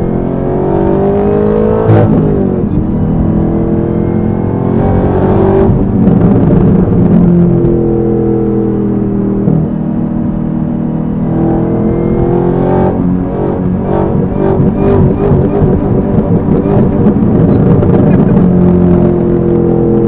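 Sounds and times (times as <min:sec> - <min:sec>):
car engine accelerating: 0:00.0 - 0:20.0
gear change: 0:00.0 - 0:20.0.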